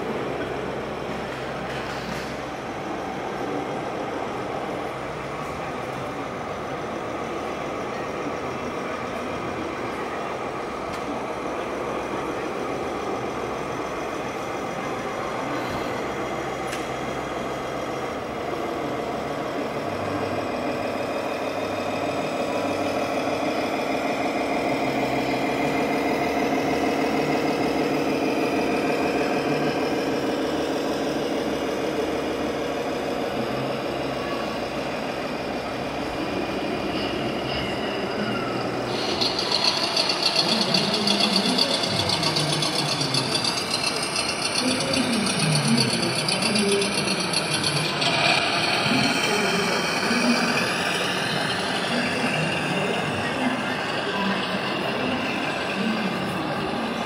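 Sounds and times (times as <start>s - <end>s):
diesel truck engine running: 0.0s - 57.0s
noise of a busy hall: 0.0s - 57.0s.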